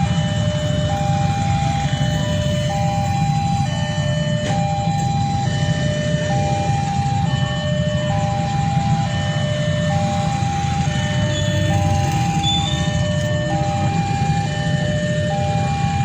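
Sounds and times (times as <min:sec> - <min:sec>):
level crossing two-tone alarm: 0:00.0 - 0:16.0
low rumble of traffic: 0:00.0 - 0:16.0.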